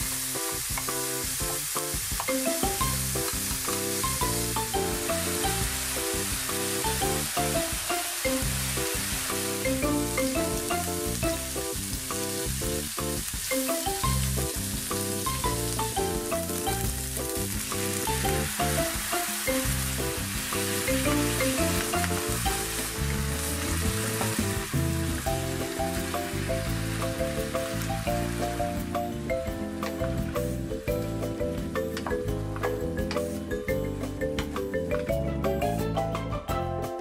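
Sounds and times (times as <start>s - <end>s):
meat sizzling in frying pan: 0.0s - 31.1s
light background music: 0.0s - 37.0s.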